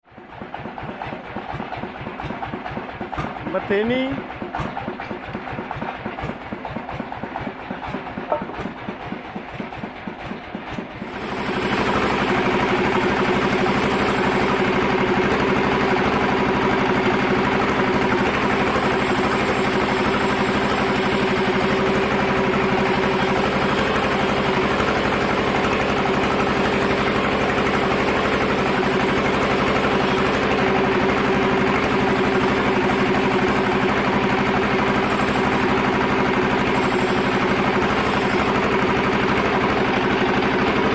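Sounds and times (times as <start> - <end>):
sawmill engine running: 0.1 - 40.9.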